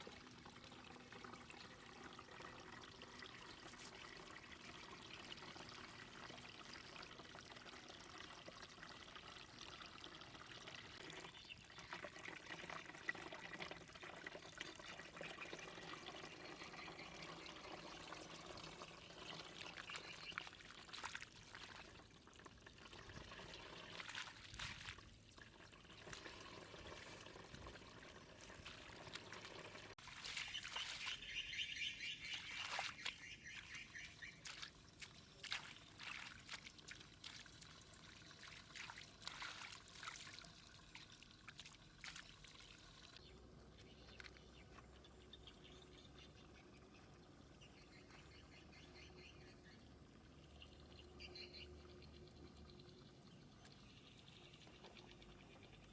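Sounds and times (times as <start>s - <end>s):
water pouring and trickling: 0.0s - 55.9s.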